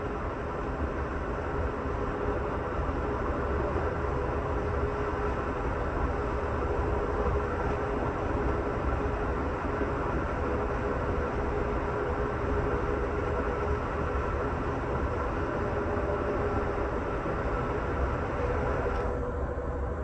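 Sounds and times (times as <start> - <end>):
train car rumbling: 0.0 - 20.0.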